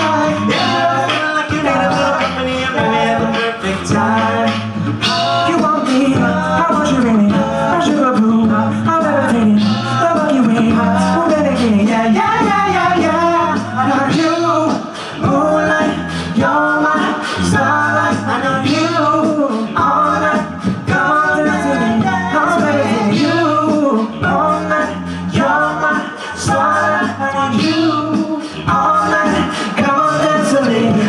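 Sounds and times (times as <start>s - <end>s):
men singing a cappella: 0.0s - 31.0s
vocal percussive hits: 0.0s - 31.0s.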